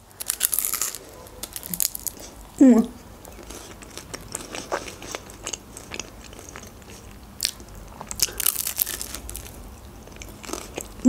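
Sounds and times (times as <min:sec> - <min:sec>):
chewing crunchy pastry: 0:00.0 - 0:11.0.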